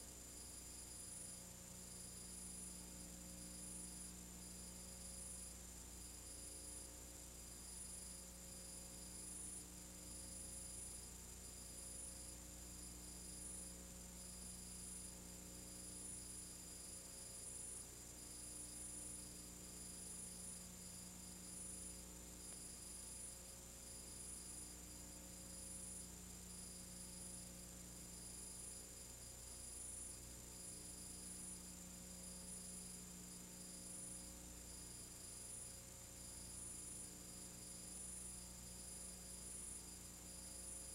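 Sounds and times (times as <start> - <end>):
light hiss: 0.0 - 40.9.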